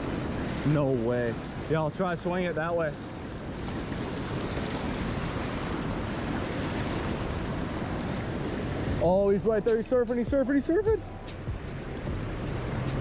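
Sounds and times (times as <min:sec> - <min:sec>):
river water rushing over rapids: 0:00.0 - 0:13.0.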